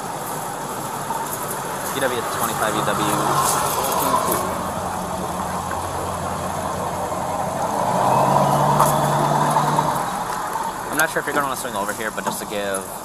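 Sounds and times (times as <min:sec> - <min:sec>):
street traffic noise: 0:00.0 - 0:13.0
vehicle engine idling: 0:00.0 - 0:13.0.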